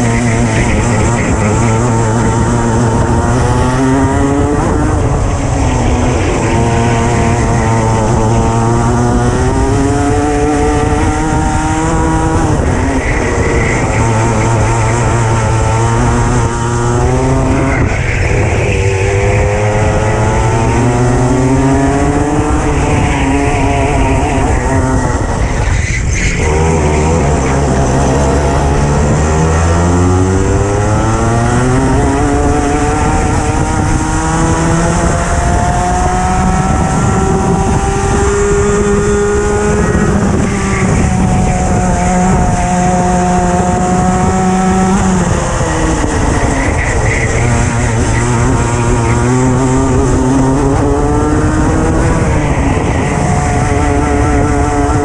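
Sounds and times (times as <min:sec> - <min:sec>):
racing kart engine revving: 0:00.0 - 0:55.0.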